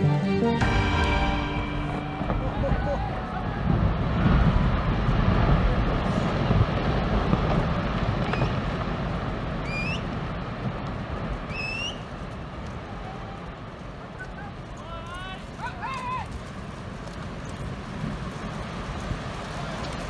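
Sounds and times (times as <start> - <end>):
ice collapsing with deep rumble: 1.4 - 15.4, 16.0 - 20.0.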